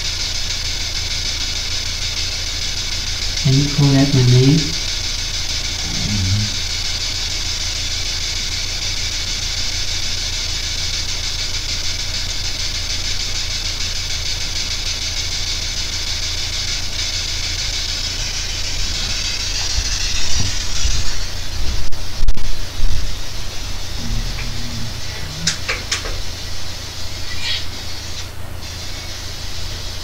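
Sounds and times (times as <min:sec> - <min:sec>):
low electrical hum: 0:00.0 - 0:30.0
static hiss: 0:00.0 - 0:30.0.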